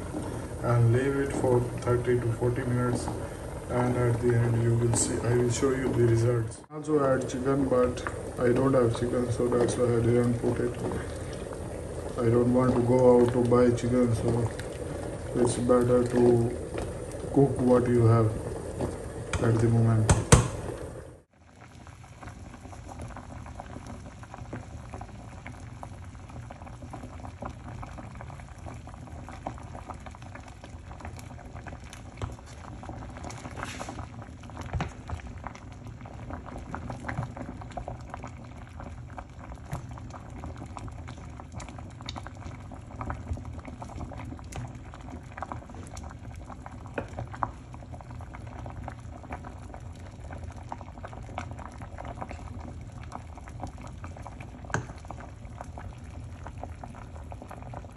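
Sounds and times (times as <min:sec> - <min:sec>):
lentils boiling and popping: 0:00.0 - 0:57.9.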